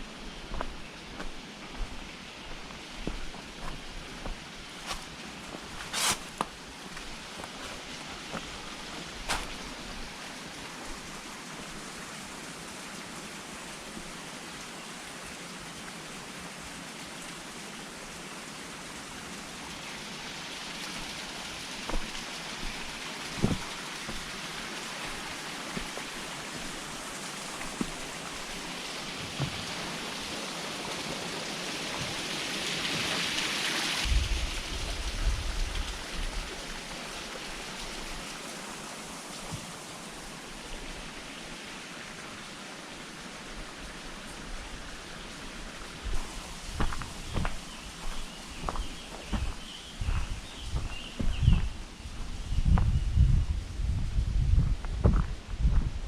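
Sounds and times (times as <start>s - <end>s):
stream water rushing: 0.0s - 52.4s.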